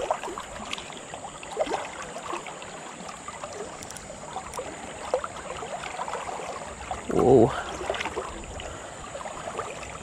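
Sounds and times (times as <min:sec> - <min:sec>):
river water gurgling and splashing: 0:00.0 - 0:10.0.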